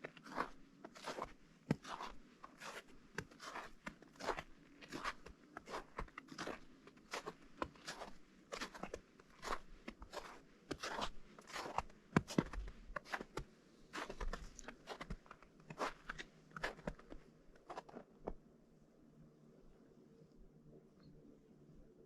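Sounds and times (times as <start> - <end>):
footsteps crunching on snow: 0.2 - 18.0.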